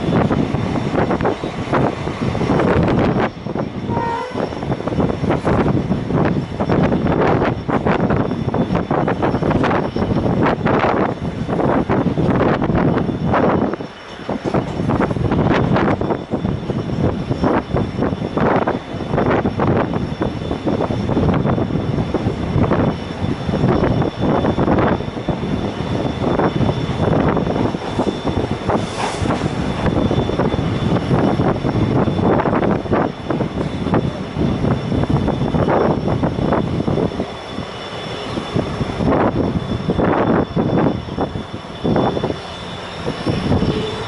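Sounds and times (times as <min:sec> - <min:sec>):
train wind and running noise: 0:00.0 - 0:44.0.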